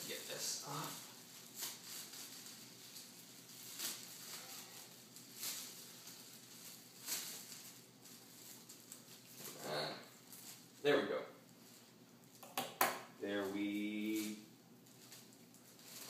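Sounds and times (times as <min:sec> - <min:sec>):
plastic bag crinkling: 0:00.0 - 0:12.4, 0:13.4 - 0:16.0.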